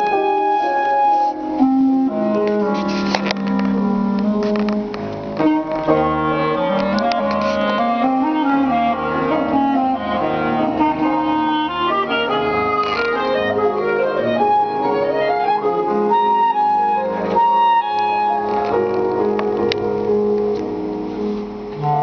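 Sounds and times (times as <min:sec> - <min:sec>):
clarinet melody: 0:00.0 - 0:22.0
held accompaniment notes: 0:00.0 - 0:22.0.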